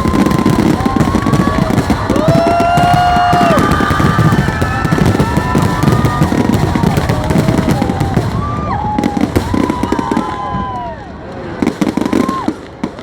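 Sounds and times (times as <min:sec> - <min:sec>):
fireworks bangs and crackles: 0:00.0 - 0:13.0
whistling fireworks: 0:00.0 - 0:13.0.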